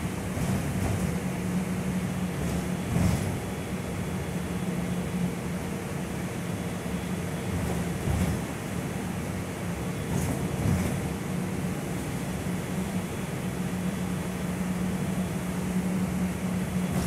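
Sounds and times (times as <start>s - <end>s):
bus engine drone: 0.0s - 17.0s
road and tyre noise: 0.0s - 17.0s.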